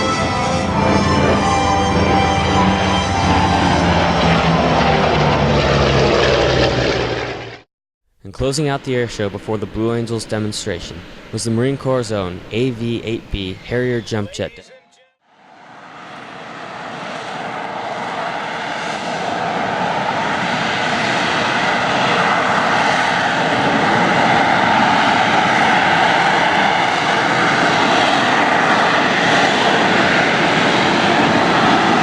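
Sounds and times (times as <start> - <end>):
jet engine roar: 0.0 - 7.7, 8.4 - 14.7, 15.3 - 32.0.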